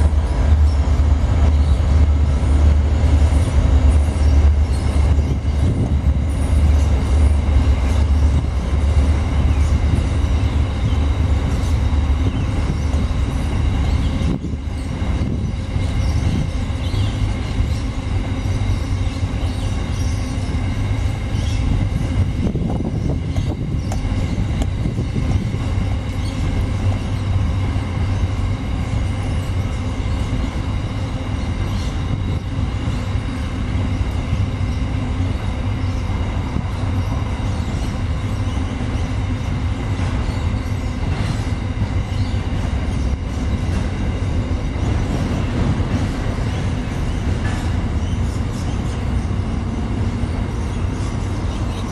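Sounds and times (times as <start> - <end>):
low rumble of urban noise: 0.0 - 51.9.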